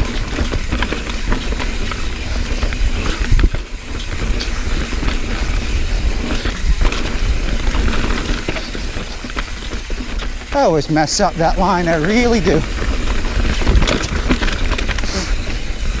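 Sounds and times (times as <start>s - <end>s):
bike knocking and rattling on rocks: 0.0s - 16.0s
wind and rolling tyres: 0.0s - 16.0s.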